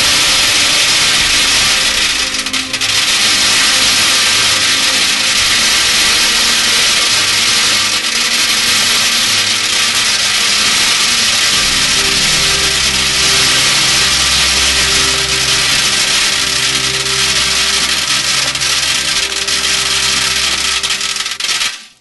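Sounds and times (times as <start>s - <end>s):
low sustained music: 0.0s - 22.0s
metal pellets pouring onto tin can: 0.0s - 22.0s.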